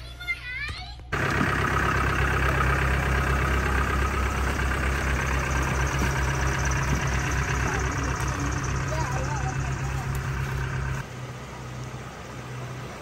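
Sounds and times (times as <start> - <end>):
diesel engine idling: 1.1 - 13.0.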